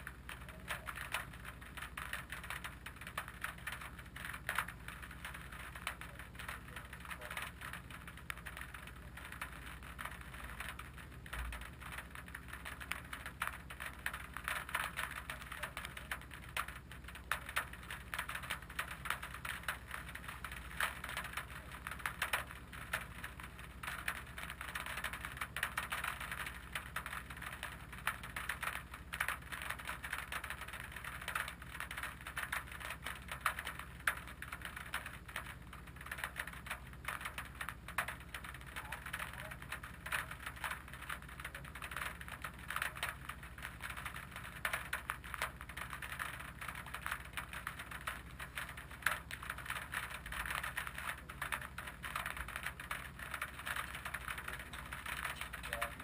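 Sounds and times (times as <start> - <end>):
rain pattering on car bonnet: 0.0 - 56.0.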